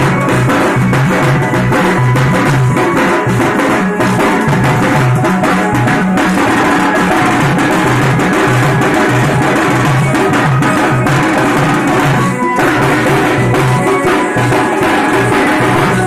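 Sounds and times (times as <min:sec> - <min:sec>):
drums beaten in fast rhythm: 0:00.0 - 0:16.0.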